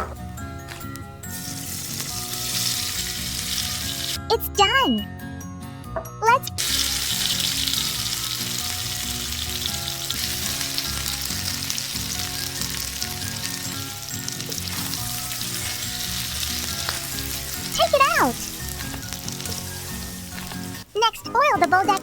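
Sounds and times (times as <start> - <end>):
food sizzling in hot oil: 1.2 - 4.2, 6.6 - 22.0.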